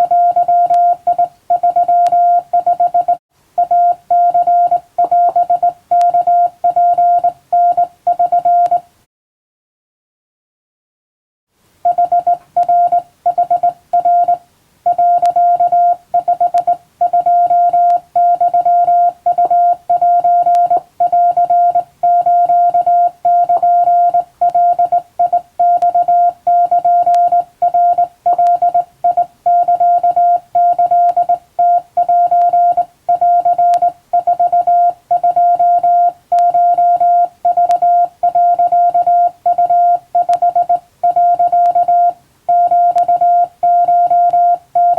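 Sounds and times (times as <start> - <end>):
morse code tone: 0.0 - 8.9, 11.9 - 44.9.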